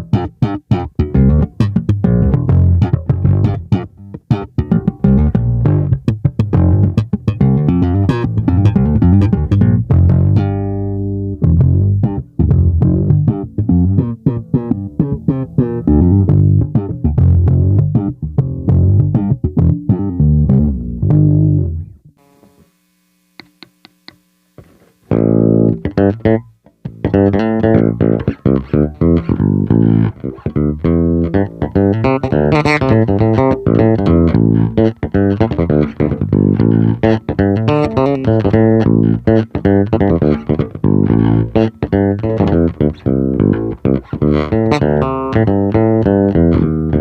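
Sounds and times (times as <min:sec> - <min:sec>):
electric bass plucked notes: 0:00.0 - 0:22.3, 0:24.6 - 0:47.0.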